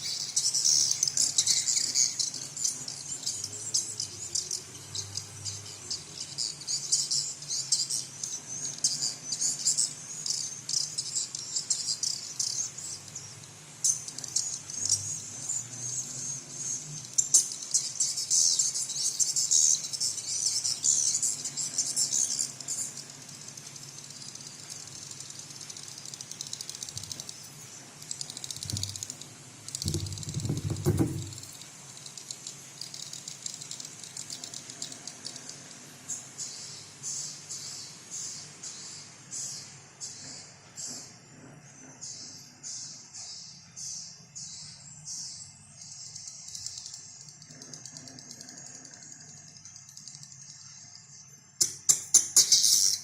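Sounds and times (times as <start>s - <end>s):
sharp bird chirps: 0.0s - 41.1s, 42.0s - 53.0s
bird chittering trill: 0.0s - 53.0s.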